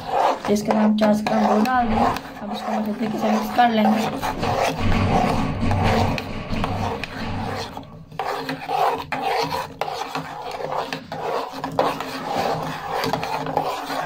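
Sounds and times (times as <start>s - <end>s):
metal spoon scraping a metal pot: 0.0s - 14.0s.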